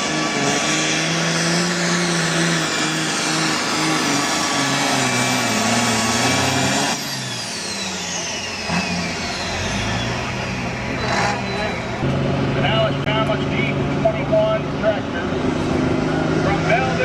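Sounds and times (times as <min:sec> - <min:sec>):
diesel tractor engine under load: 0:00.0 - 0:17.0.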